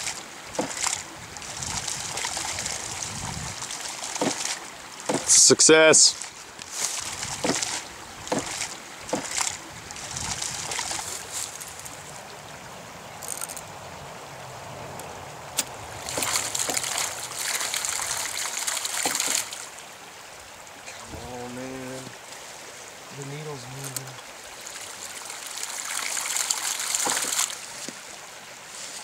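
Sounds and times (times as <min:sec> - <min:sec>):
creek water running: 0:00.0 - 0:29.0
water gushing and splashing: 0:00.0 - 0:29.0.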